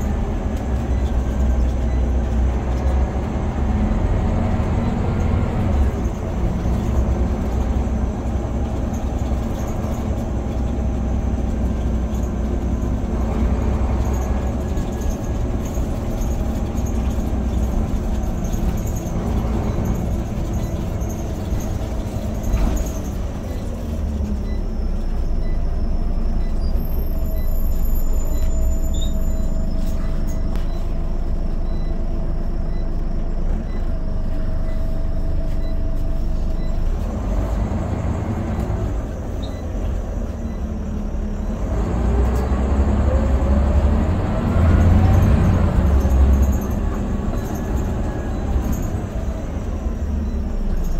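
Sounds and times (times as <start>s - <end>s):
bus diesel engine running: 0.0s - 50.9s
road rumble: 0.0s - 50.9s.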